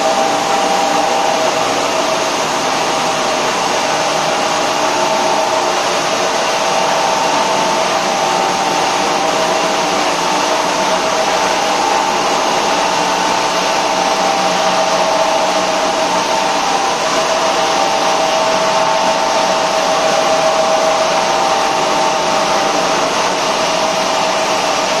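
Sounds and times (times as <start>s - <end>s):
machinery motors whirring drone: 0.0s - 25.0s.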